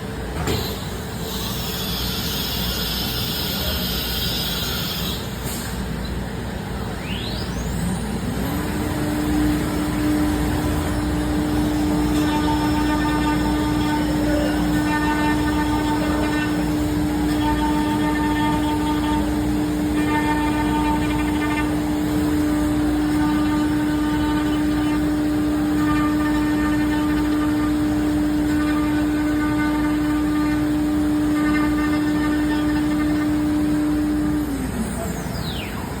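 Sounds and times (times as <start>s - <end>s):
machine whining tones: 0.4s - 5.7s, 6.9s - 36.0s.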